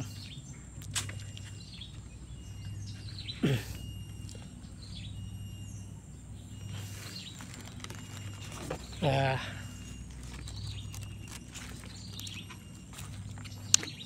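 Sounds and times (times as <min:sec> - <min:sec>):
birds chirping and calling: 0:00.0 - 0:14.0
low background hum: 0:00.0 - 0:14.0.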